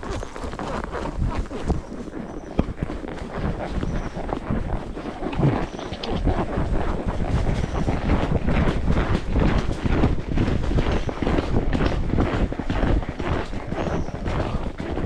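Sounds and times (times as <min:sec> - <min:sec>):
horse hooves knocking: 0:00.0 - 0:15.0
wind rumble on microphone: 0:00.0 - 0:15.0.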